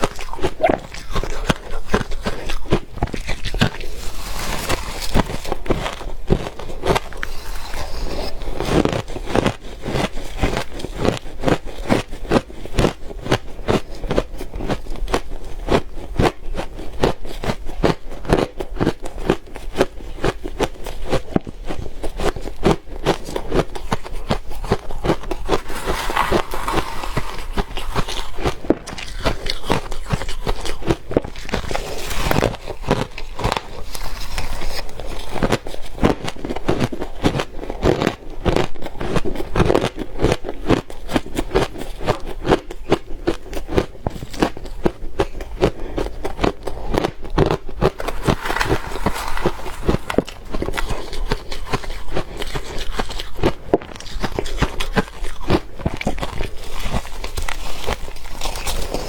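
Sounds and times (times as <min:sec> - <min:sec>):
ice crunching as chewed: 0:00.0 - 0:59.0.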